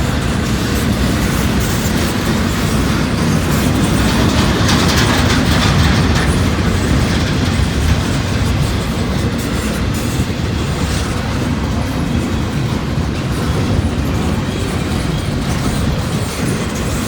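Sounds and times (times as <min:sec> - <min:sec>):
freight train cars rolling on rails: 0:00.0 - 0:17.0.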